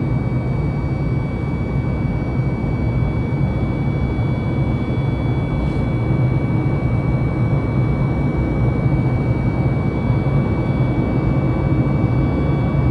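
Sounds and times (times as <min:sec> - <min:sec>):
jet engine and airflow roar: 0:00.0 - 0:12.9.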